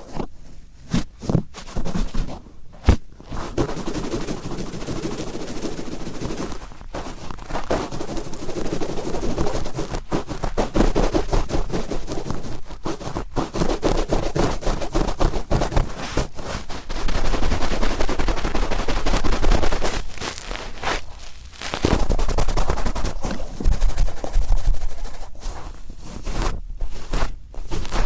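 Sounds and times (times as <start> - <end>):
cotton swab scratching microphone: 3.2 - 28.0.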